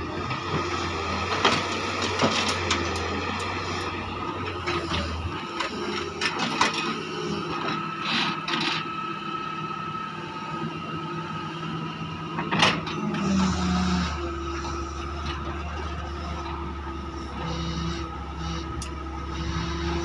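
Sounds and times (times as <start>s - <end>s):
excavator engine humming: 0.0s - 20.0s
hydraulic whine: 0.0s - 20.0s.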